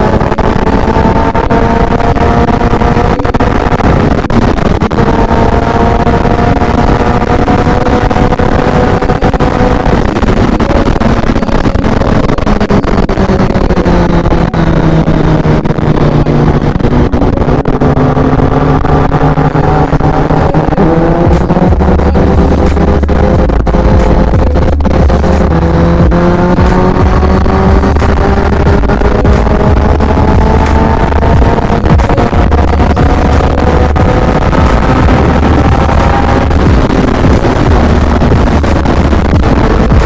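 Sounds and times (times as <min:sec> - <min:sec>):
motorcycle engine at speed: 0:00.0 - 0:40.0
wind and road rush: 0:00.0 - 0:40.0.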